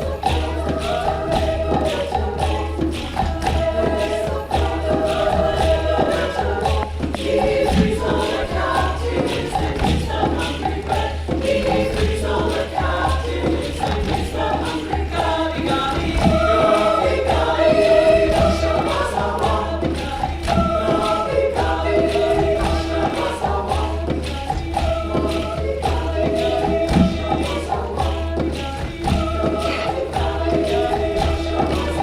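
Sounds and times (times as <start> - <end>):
choir singing in parts: 0.0 - 32.0
hand percussion strokes: 0.0 - 32.0.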